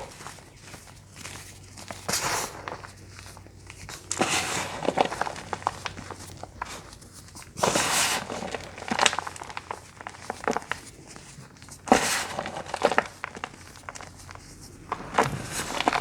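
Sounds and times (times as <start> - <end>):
crunchy bites: 0.0 - 16.0.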